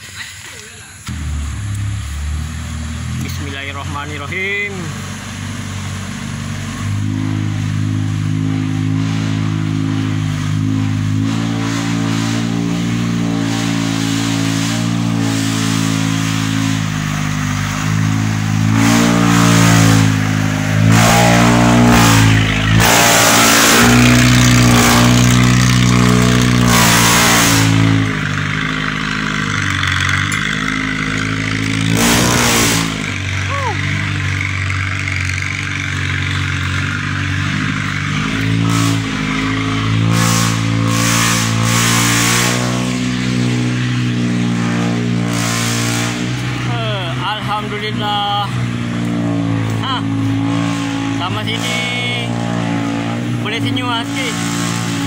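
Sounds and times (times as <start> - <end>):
vehicle engine labouring uphill: 0.0 - 55.0.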